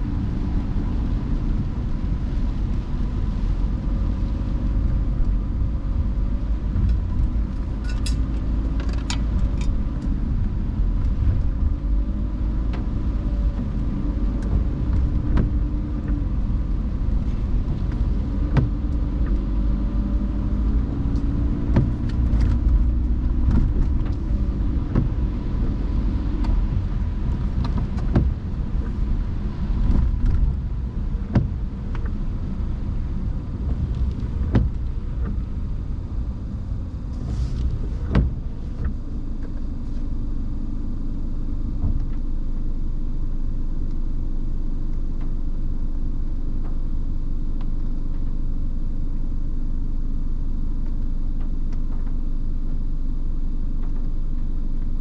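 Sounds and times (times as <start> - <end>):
faint car engine: 0.0 - 55.0
road rumble: 0.0 - 55.0.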